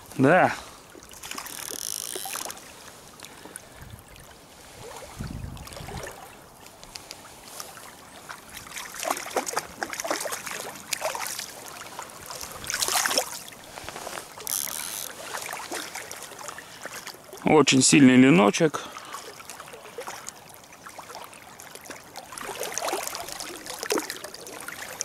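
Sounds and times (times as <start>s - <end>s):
running river water: 0.0s - 25.0s
fish splashing in water: 0.7s - 17.4s, 18.9s - 25.0s.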